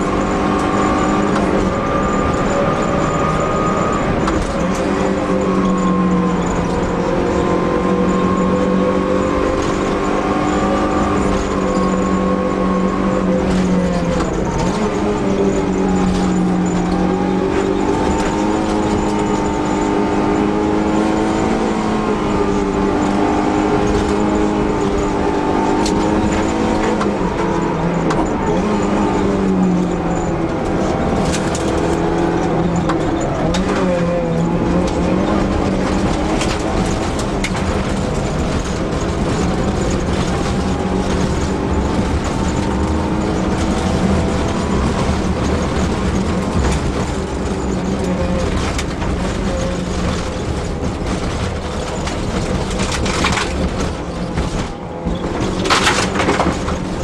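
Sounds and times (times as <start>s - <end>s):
rally car engine at high revs: 0.0s - 57.0s.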